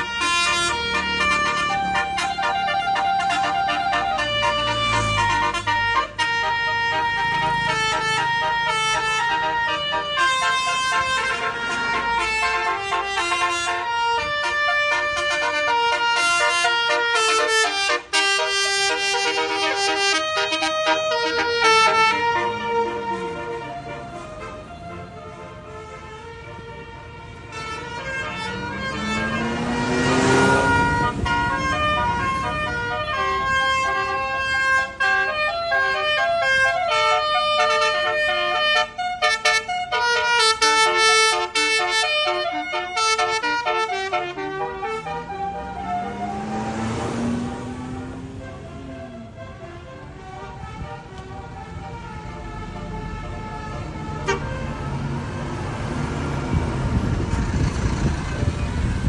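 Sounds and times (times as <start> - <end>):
vehicle melody horn playing a tune: 0.0 - 55.0
bus engine rumble: 0.0 - 59.0
road noise: 0.0 - 59.0.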